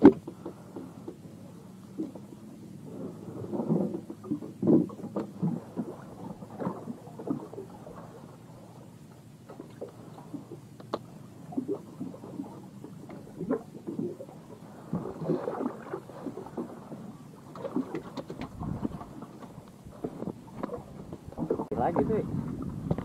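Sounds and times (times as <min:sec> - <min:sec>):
water lapping at hull: 0:00.0 - 0:23.0.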